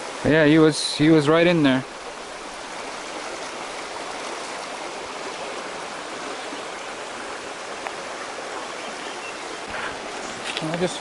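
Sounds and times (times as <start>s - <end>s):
brook flowing over stones: 0.0s - 11.0s.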